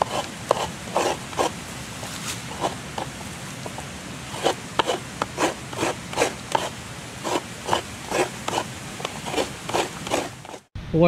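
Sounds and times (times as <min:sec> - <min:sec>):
coconut grating rasps: 0:00.0 - 0:10.7.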